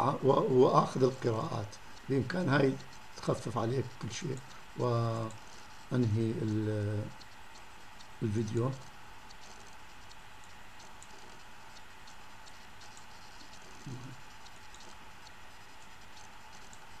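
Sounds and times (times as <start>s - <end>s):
light irregular ticks: 0.0s - 17.0s.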